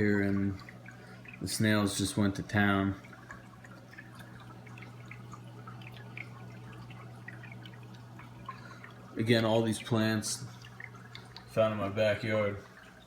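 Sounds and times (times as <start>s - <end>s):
small waterfall trickling: 0.0s - 13.0s
steady low hum: 0.0s - 13.0s
water drips: 0.0s - 13.0s.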